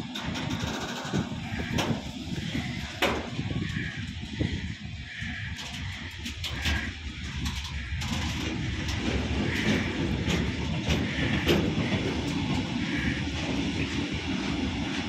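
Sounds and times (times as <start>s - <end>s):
freight train rolling past: 0.0s - 15.0s
wheels clicking on track: 0.0s - 15.0s.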